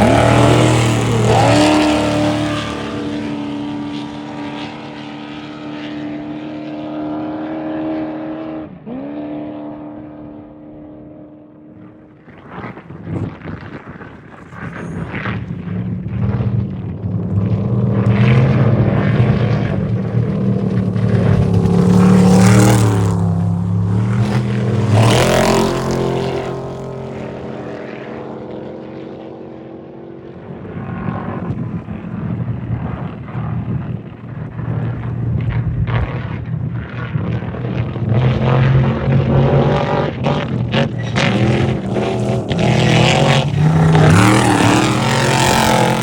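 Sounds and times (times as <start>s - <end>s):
race vehicle engines passing: 0.0s - 10.6s, 14.5s - 46.0s.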